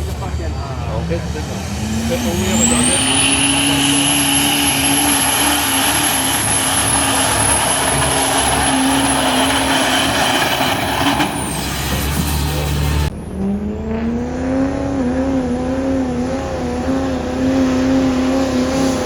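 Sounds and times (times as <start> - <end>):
diesel truck engine at full throttle: 0.0 - 19.0
turbocharger whistling: 0.0 - 19.0.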